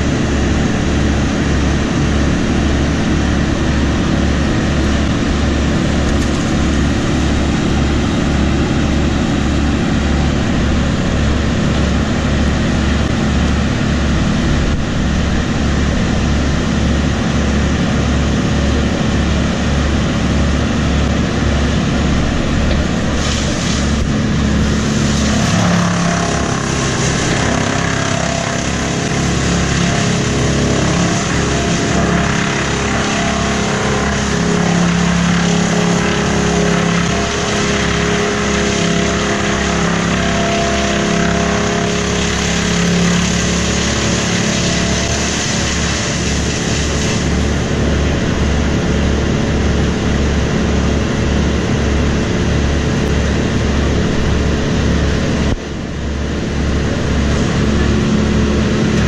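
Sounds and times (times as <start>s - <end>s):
truck engine pulsing: 0.0s - 59.0s.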